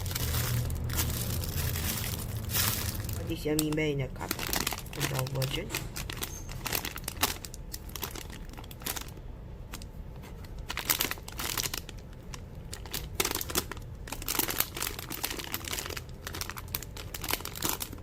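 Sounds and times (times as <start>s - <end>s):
plastic wrapping crinkling: 0.0s - 18.0s
steady low hum: 0.0s - 18.0s.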